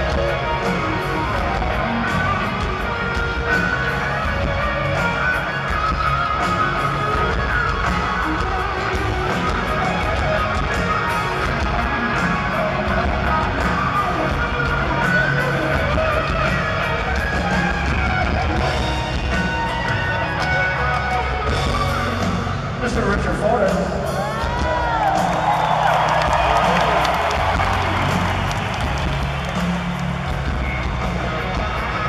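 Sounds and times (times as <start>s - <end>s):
electric guitar: 0.0s - 32.0s
live rock band playing: 0.0s - 32.0s.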